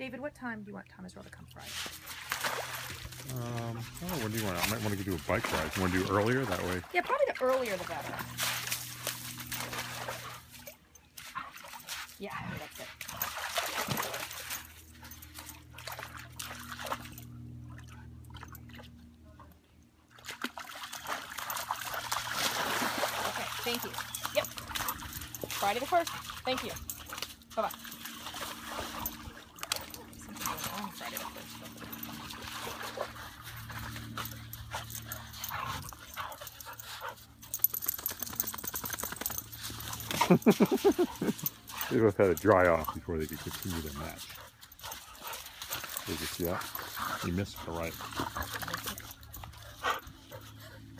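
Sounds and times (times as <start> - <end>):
paws scuffling in wet sand: 1.6 - 17.1, 20.7 - 50.9
dogs splashing through water: 1.6 - 19.2, 20.0 - 50.9.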